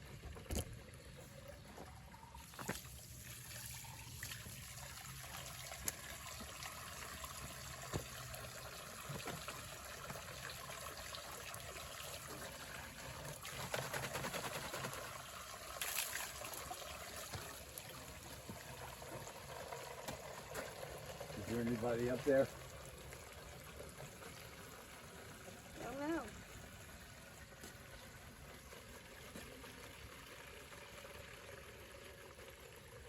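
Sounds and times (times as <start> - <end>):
water trickling from a pipe: 0.0 - 33.0.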